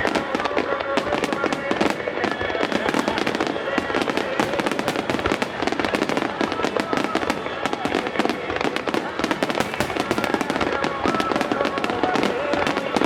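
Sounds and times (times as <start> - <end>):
fireworks bursting: 0.0 - 13.0
fireworks crackle: 0.0 - 13.0.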